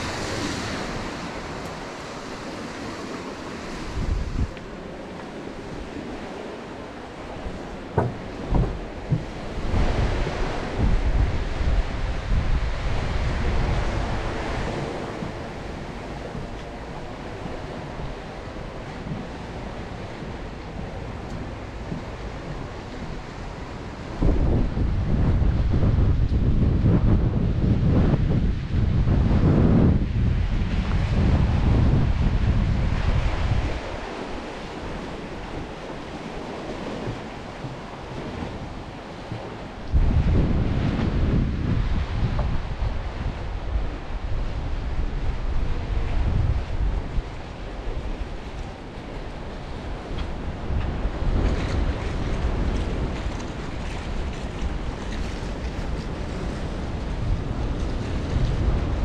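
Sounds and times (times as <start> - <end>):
sea waves washing: 0.0 - 59.0
wind buffeting microphone: 0.0 - 59.0.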